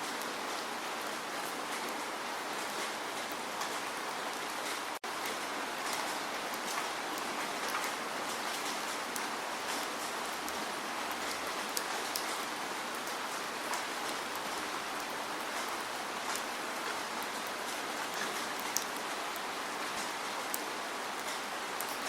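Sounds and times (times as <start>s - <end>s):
raindrops ticking on a surface: 0.0s - 22.0s
steady rain hiss: 0.0s - 22.0s.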